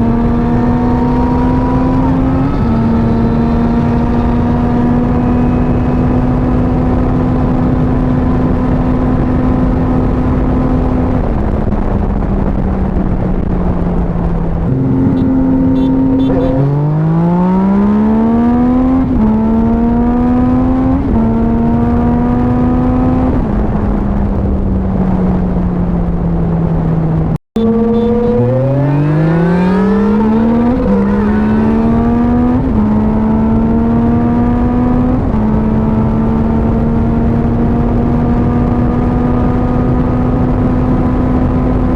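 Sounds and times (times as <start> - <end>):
motorcycle engine accelerating: 0.0 - 41.9
wind rushing on microphone: 0.0 - 41.9.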